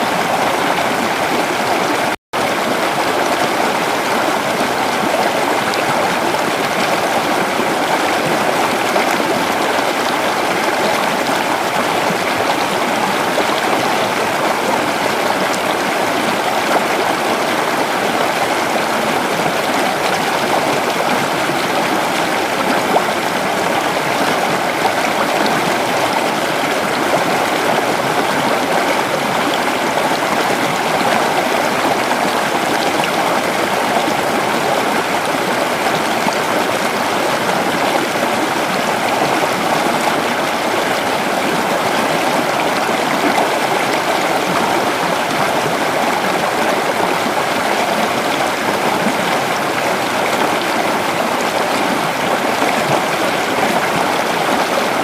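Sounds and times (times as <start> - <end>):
creek water running over stones: 0.0 - 55.0.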